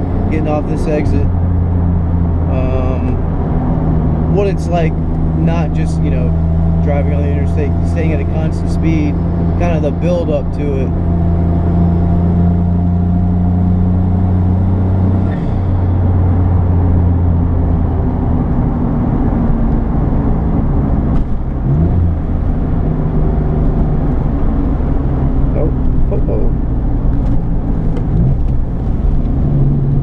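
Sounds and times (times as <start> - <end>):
car engine drone in cabin: 0.0 - 30.0
road and tyre noise: 0.0 - 30.0.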